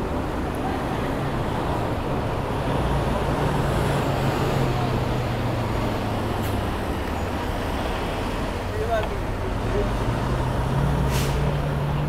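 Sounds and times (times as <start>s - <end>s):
large vehicle engine droning: 0.0s - 12.0s
road traffic noise: 0.0s - 12.0s.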